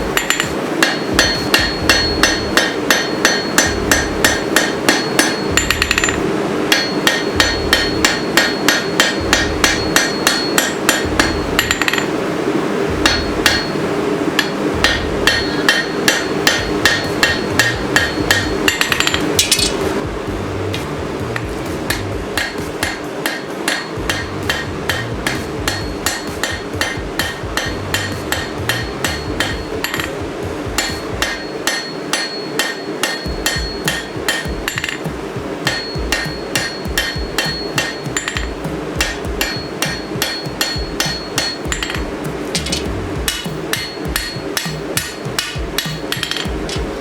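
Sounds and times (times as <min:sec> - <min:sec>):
hammer striking steel on anvil: 0:00.0 - 0:12.2, 0:12.9 - 0:47.0
steady low rush: 0:00.0 - 0:47.0.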